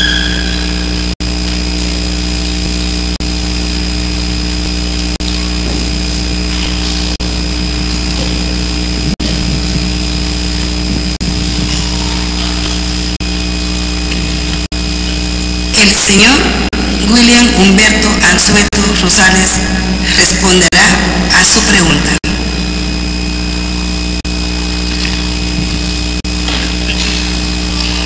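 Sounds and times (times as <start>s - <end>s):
loud electrical hum and hiss: 0.0s - 28.0s.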